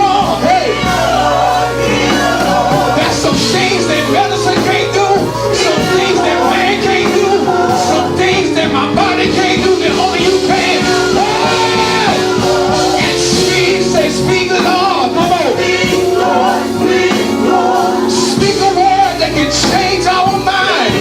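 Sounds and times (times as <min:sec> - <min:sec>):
gospel band playing: 0:00.0 - 0:21.0
voices singing: 0:00.0 - 0:21.0.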